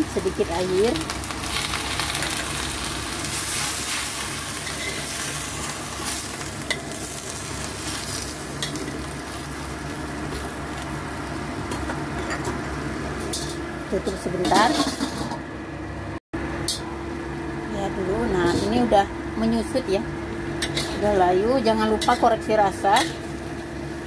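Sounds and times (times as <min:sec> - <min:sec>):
vegetables sizzling in a wok: 0:00.0 - 0:15.4, 0:16.5 - 0:24.0.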